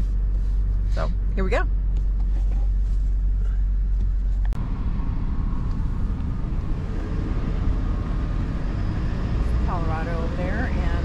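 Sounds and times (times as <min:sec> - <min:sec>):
truck engine humming: 0:00.0 - 0:11.0
truck engine rumble and road noise: 0:00.0 - 0:11.0.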